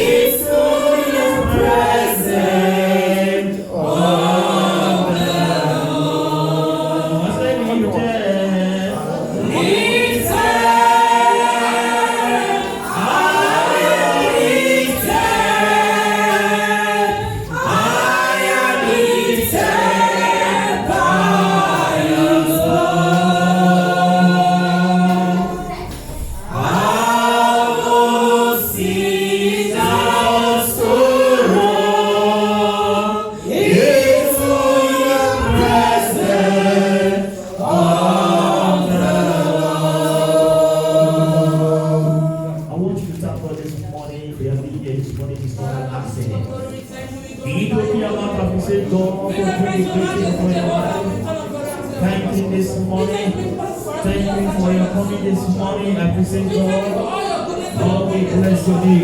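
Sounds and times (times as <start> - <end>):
group singing gospel song: 0.0 - 59.0.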